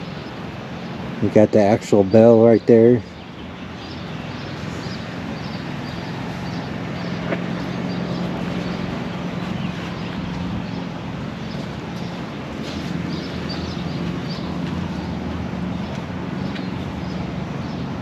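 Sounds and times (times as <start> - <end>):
engine-like rumble with low hum: 0.0 - 18.0.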